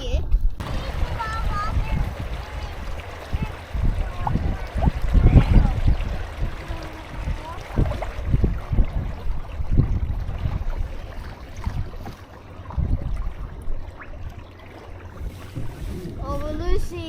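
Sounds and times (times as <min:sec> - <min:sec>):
water sloshing against hulls: 0:00.0 - 0:17.0
wind buffeting microphone: 0:00.0 - 0:17.0.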